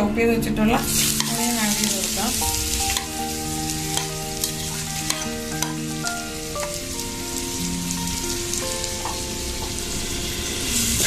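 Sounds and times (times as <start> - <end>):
soft background melody: 0.0 - 11.0
onion sizzling in oil: 0.8 - 11.0.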